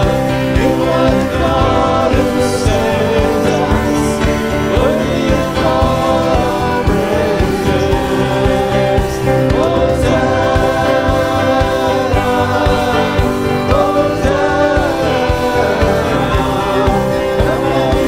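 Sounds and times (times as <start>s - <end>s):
band playing with steady beat: 0.0s - 18.0s
person singing: 0.0s - 18.0s.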